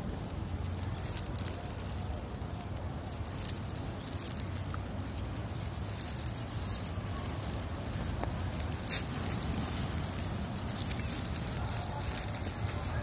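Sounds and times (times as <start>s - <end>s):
crackle: 0.0s - 13.0s
wind rumbling on microphone: 0.0s - 13.0s.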